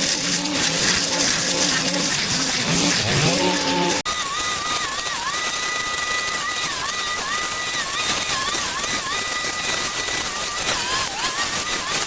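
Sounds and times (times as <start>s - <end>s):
power tool engine whining: 0.0s - 12.0s.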